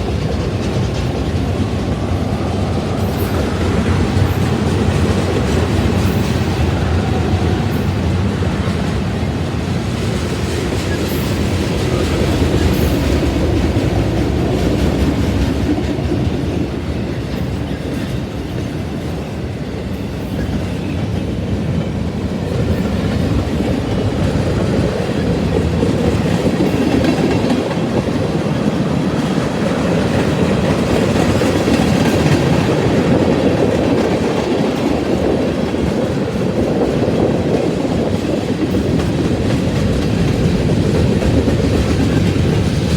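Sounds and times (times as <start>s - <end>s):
freight train rumbling: 0.0s - 42.9s
wheels clacking over rail joints: 0.0s - 42.9s.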